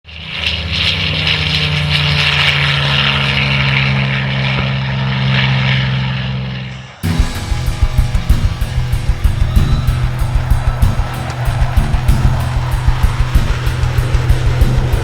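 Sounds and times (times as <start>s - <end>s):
propeller airplane droning overhead: 0.1s - 15.0s.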